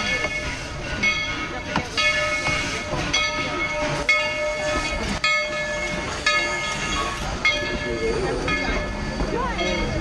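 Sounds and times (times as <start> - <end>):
locomotive bell ringing: 0.0 - 10.0
train rolling slowly: 0.0 - 10.0.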